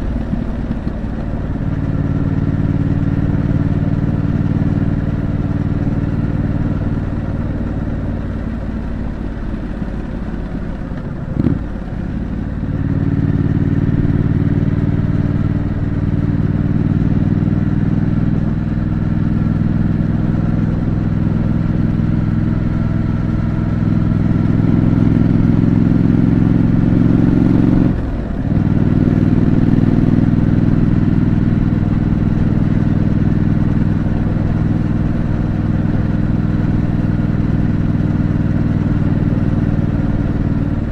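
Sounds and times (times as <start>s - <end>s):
motorcycle engine throb: 0.0s - 40.9s.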